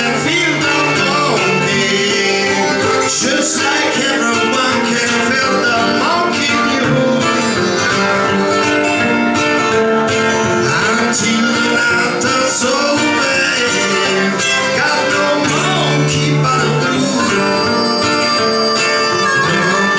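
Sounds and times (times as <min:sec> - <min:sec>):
man singing: 0:00.0 - 0:09.1, 0:09.7 - 0:19.9
acoustic guitar strumming: 0:00.0 - 0:19.9.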